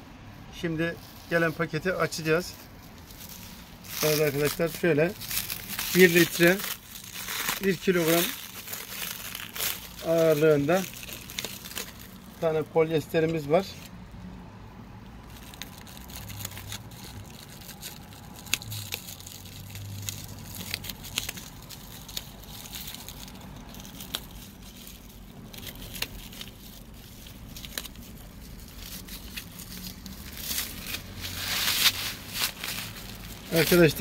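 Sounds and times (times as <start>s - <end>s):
plastic wrap crinkling: 0.9s - 13.9s, 15.2s - 34.0s.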